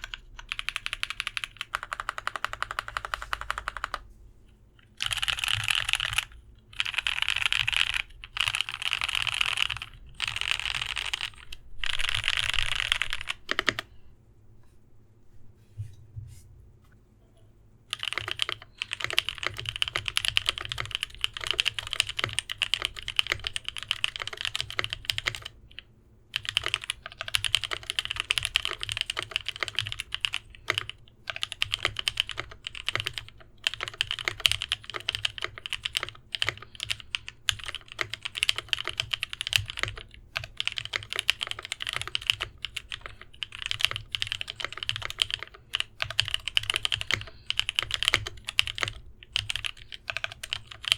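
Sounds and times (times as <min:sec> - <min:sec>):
mechanical keyboard typing: 0:00.0 - 0:04.1, 0:04.9 - 0:13.9, 0:17.9 - 0:50.9.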